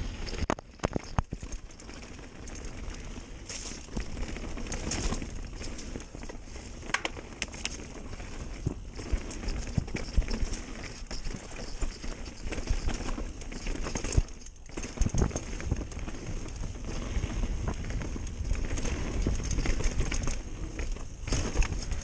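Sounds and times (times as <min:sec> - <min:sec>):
bike clattering over bumps: 0:00.1 - 0:22.0
tyre and wind rush: 0:02.5 - 0:22.0.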